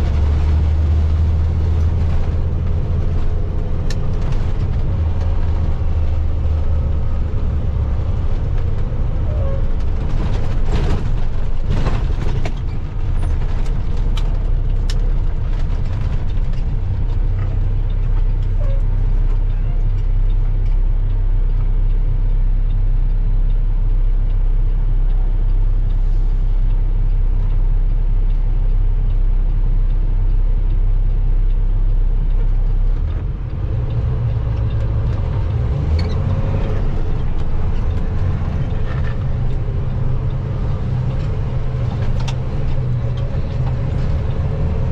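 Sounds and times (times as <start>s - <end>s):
road noise: 0.0s - 44.9s
truck engine drone: 0.0s - 44.9s.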